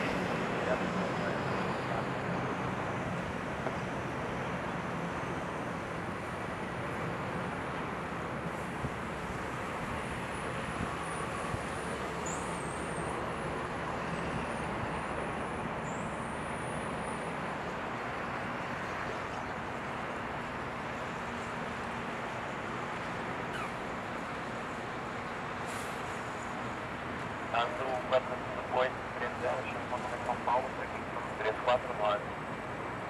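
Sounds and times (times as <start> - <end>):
distant jet engine rush: 0.0 - 33.0.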